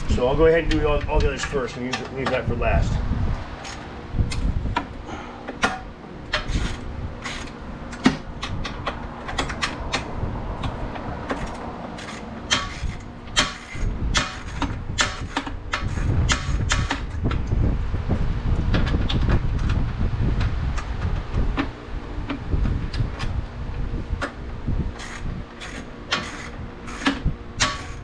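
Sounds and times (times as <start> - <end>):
low rumble: 2.5 - 25.9.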